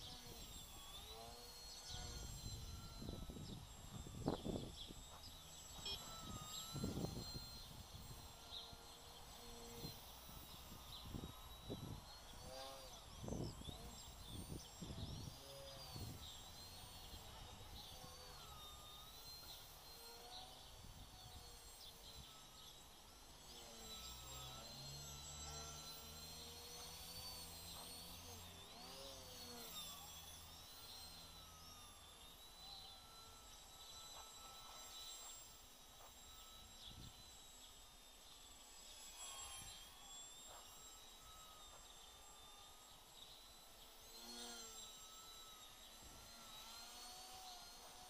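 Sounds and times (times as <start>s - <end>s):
quadcopter motors whining: 0.0s - 48.0s.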